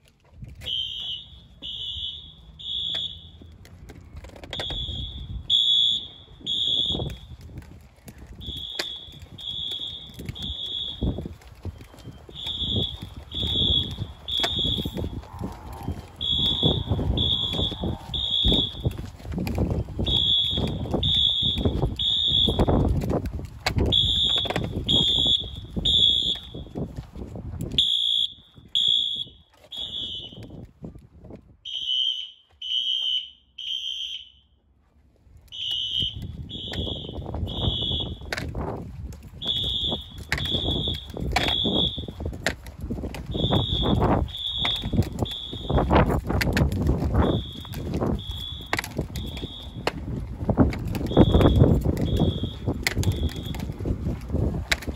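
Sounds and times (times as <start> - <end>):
footsteps on pavement: 0.0 - 34.0, 34.8 - 54.9
fire alarm horn beeping: 0.6 - 3.6, 4.5 - 7.4, 8.4 - 15.3, 15.9 - 23.0, 23.8 - 26.9, 27.8 - 30.6, 31.6 - 34.6, 35.5 - 38.4, 39.4 - 42.4, 43.2 - 50.0, 50.9 - 53.9.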